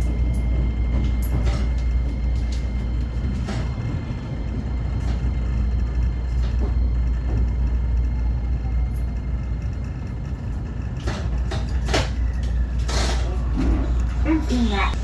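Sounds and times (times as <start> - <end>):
electric railcar rumbling: 0.0 - 15.0.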